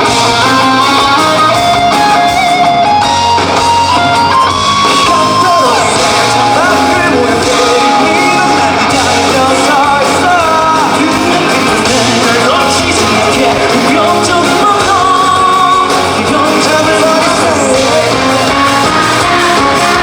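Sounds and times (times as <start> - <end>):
rock band playing loudly: 0.0 - 20.0
person singing: 3.8 - 20.0.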